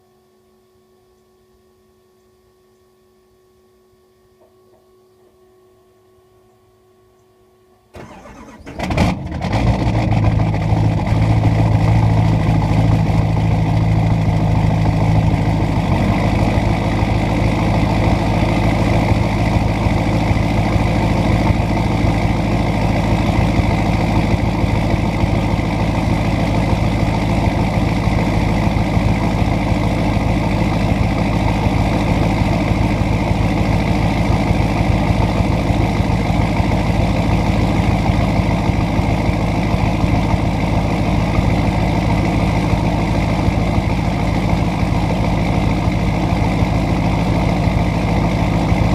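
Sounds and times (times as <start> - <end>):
diesel engine cranking: 8.0 - 48.9
diesel engine idling loudly: 8.0 - 48.9.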